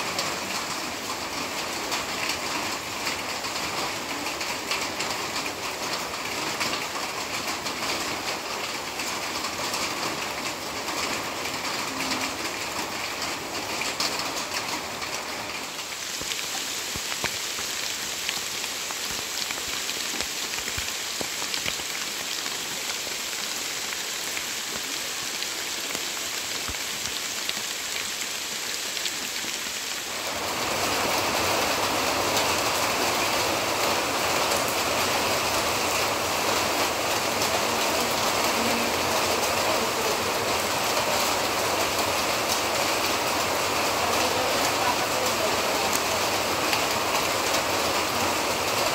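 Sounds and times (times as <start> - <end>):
heavy rain hissing: 0.0 - 48.9.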